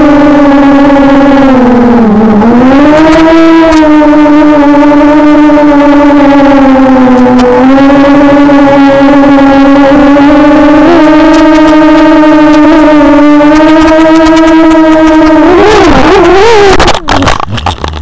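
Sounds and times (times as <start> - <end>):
quadcopter propellers whining: 0.0 - 17.7.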